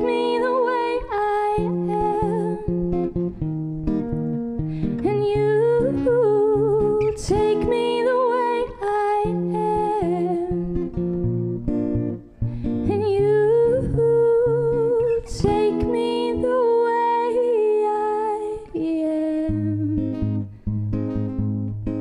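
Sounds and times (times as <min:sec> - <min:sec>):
woman singing wordless melody: 0:00.0 - 0:03.4, 0:04.8 - 0:11.2, 0:12.2 - 0:20.5
acoustic guitar strummed and picked: 0:00.0 - 0:22.0.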